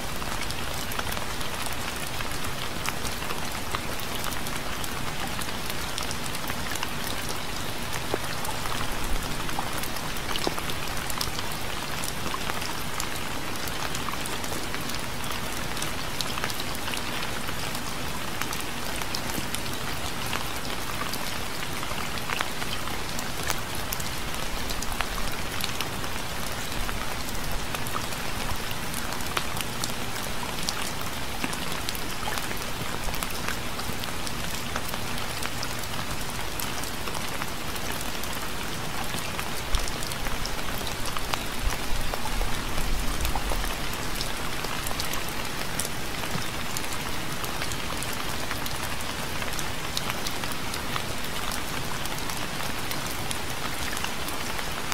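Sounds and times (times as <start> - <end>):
gentle rain hiss: 0.0 - 54.9.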